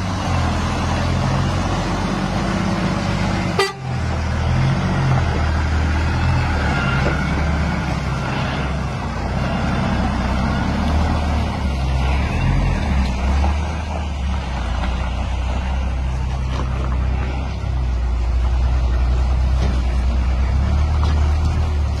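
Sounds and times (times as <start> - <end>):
diesel truck exhaust drone: 0.0 - 22.0.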